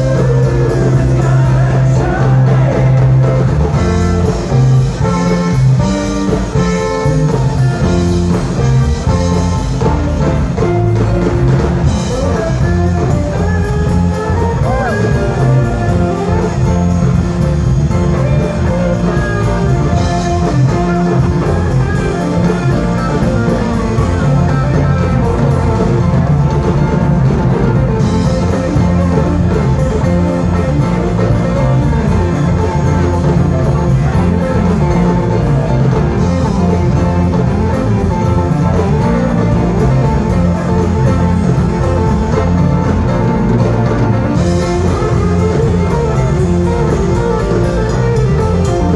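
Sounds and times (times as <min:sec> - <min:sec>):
bass guitar: 0:00.0 - 0:48.9
drum kit: 0:00.0 - 0:48.9
electric guitars: 0:00.0 - 0:48.9.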